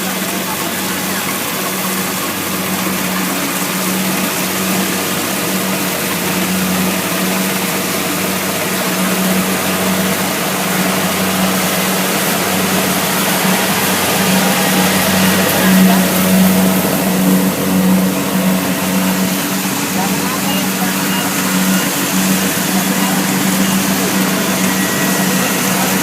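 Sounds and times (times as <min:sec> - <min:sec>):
combine harvester engine hum: 0:00.0 - 0:26.0.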